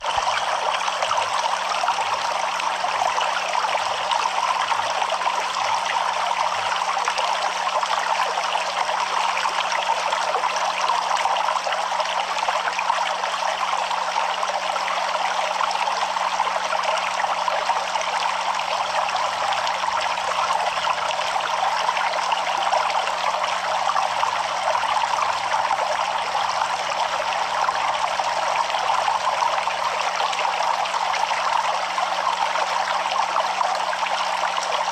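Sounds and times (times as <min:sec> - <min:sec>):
stream water running: 0:00.0 - 0:34.9.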